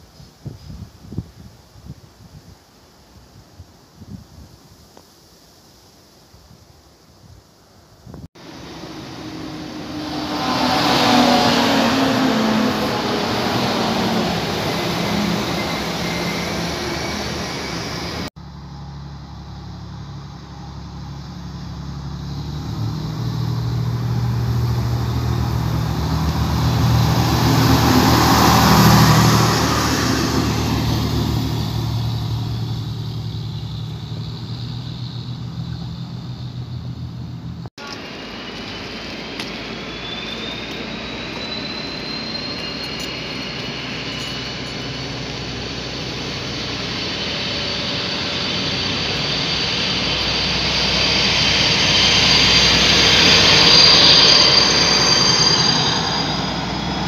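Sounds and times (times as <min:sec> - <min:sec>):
train with rising whine: 0:08.1 - 0:57.0
diesel railcar passing: 0:08.4 - 0:57.0
diesel train running: 0:08.4 - 0:57.0.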